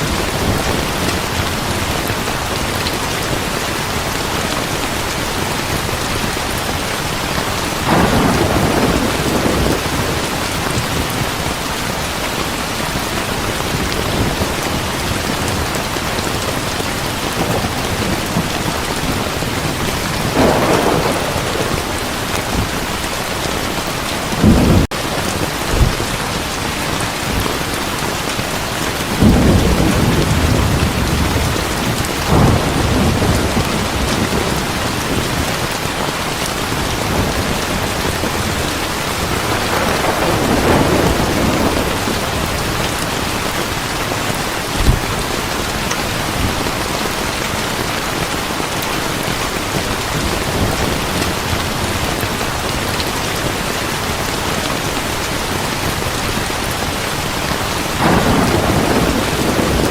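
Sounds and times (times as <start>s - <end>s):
thunder rumbling: 0.0s - 48.0s, 57.9s - 59.9s
heavy rain: 0.0s - 59.9s.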